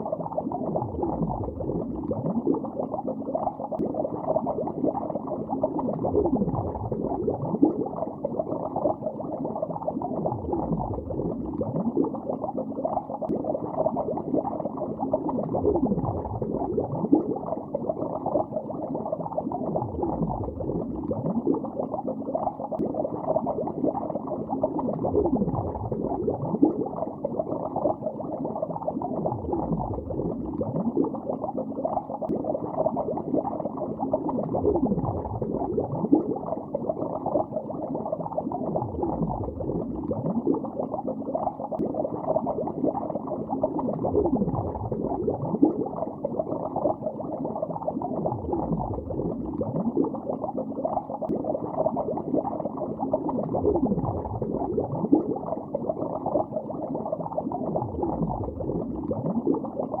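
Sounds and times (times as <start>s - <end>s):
underwater bubbling and gurgling: 0.0s - 60.0s.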